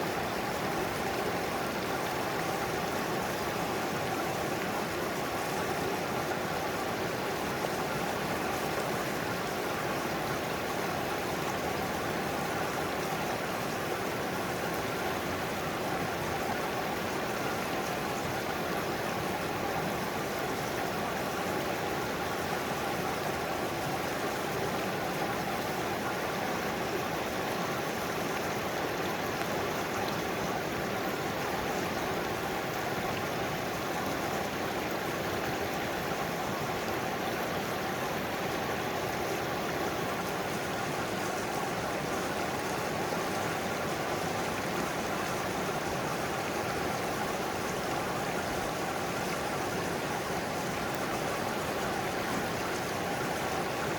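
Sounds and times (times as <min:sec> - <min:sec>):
water rushing over rocks: 0:00.0 - 0:53.9.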